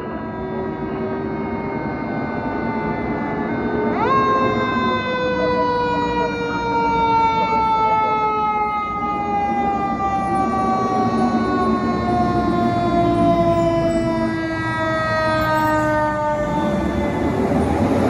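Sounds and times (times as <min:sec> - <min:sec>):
fire engine siren wailing: 0:00.0 - 0:18.0
truck rumble: 0:00.0 - 0:18.0.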